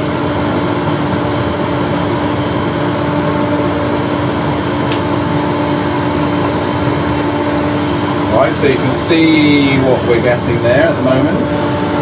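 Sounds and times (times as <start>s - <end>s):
dust extractor running: 0.0s - 12.0s
hairdryer blowing air: 0.0s - 12.0s.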